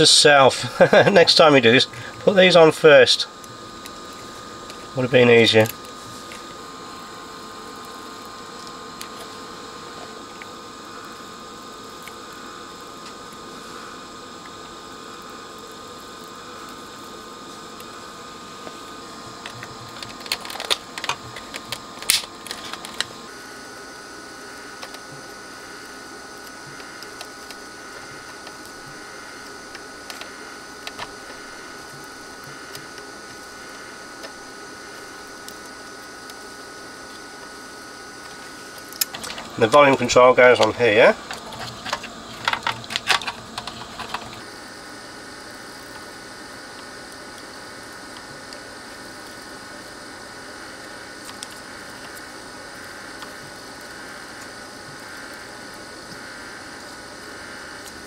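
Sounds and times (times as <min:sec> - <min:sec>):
faint room hum: 0:00.0 - 0:58.0.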